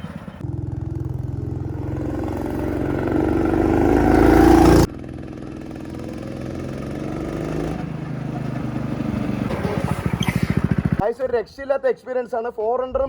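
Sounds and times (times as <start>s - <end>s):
go-kart engine under throttle: 0.0s - 11.0s.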